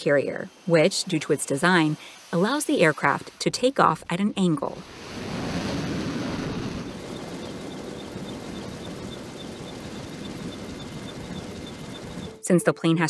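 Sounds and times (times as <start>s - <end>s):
jet engine roar: 0.0s - 12.4s.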